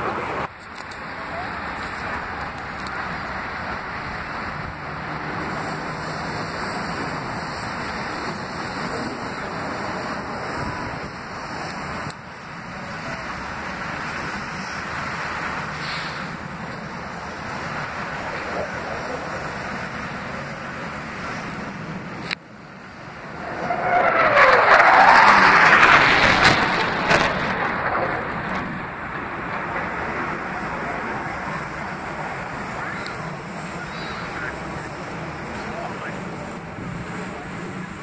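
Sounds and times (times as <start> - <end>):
jet engine roar: 0.0 - 38.0
jet passing close by: 0.0 - 38.0.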